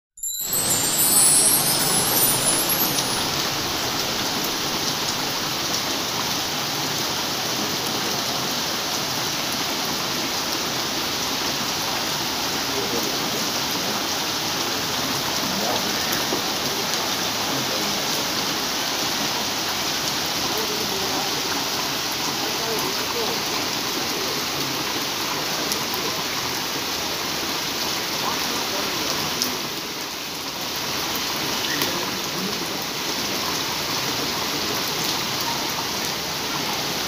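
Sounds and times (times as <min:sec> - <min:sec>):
heavy rain on street: 0:00.2 - 0:37.0.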